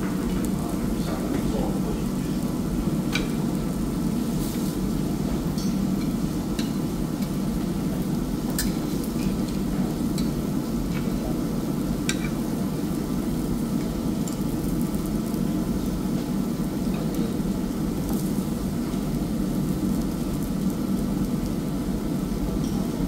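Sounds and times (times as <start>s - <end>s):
low background hum: 0.0s - 23.0s
food sizzling on a grill: 0.2s - 23.0s.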